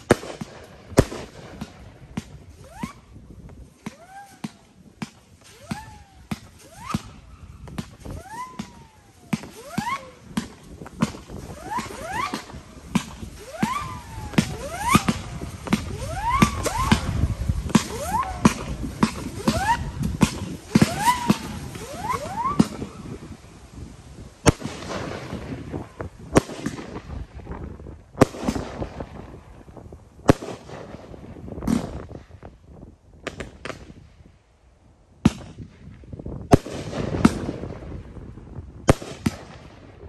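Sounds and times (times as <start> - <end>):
fireworks bangs: 0.0 - 32.3, 35.2 - 40.0
rising firework whistles: 0.0 - 32.5.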